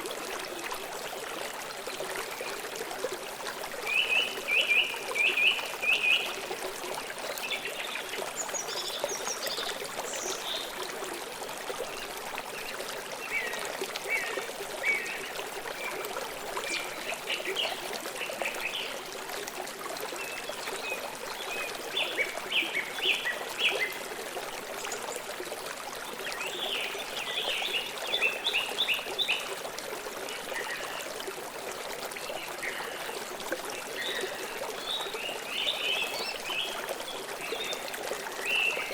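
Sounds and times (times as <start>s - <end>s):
water rushing trickle: 0.0s - 38.9s.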